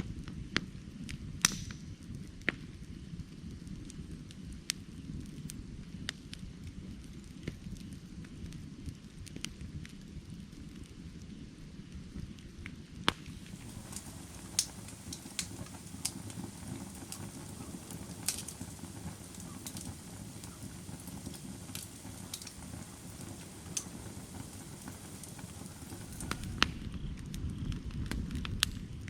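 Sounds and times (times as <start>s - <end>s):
firewood crackling and popping: 0.0s - 29.0s
low rumble of fire: 0.0s - 29.0s.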